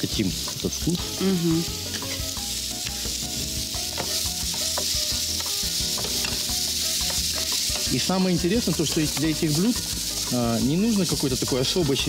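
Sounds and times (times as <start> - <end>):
sauce sizzling in frying pan: 0.0 - 12.0.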